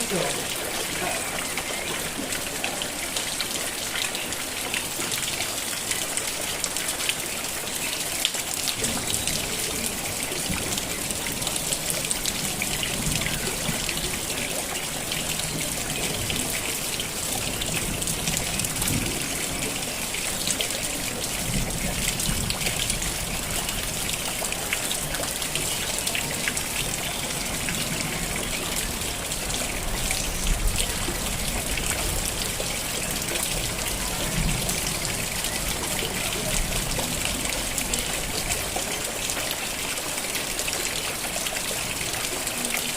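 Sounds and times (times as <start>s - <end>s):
rain pattering: 0.0s - 42.9s
water trickling: 0.0s - 42.9s.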